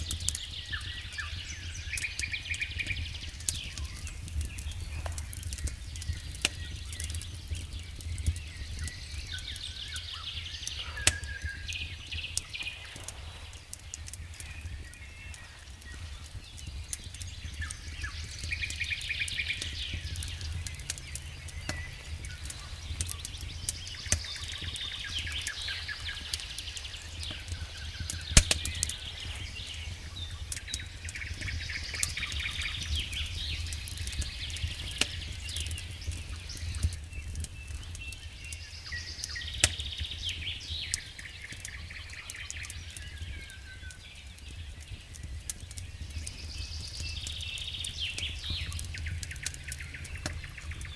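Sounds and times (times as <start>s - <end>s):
songbird chirping: 0.0s - 50.9s
wood fire crackling and popping: 0.0s - 50.9s.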